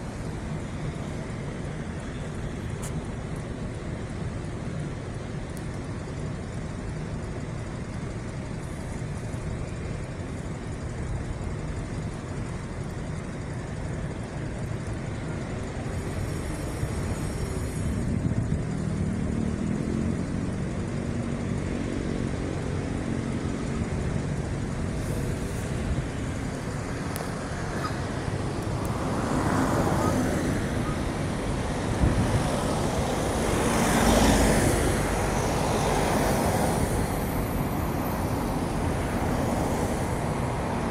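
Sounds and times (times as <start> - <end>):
road and traffic noise: 0.0 - 40.9
steady engine hum: 0.0 - 40.9.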